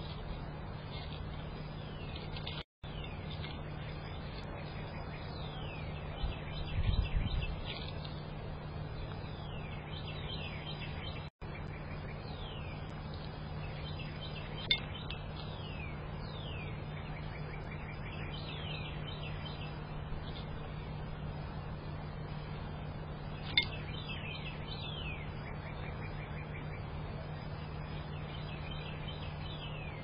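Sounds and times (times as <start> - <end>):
small birds whistling and chipping: 0.0 - 30.0
steady low hum: 0.0 - 30.0.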